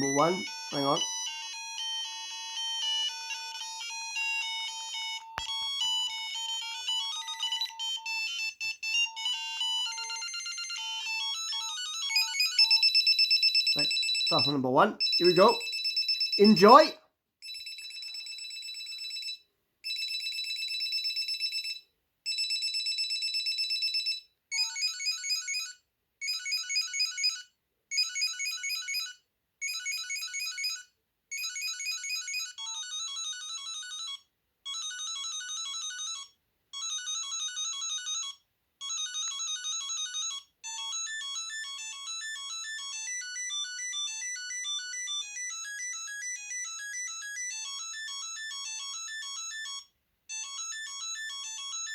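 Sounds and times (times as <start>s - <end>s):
phone ring: 0.0s - 51.9s
phone ringtone melody: 0.0s - 51.9s.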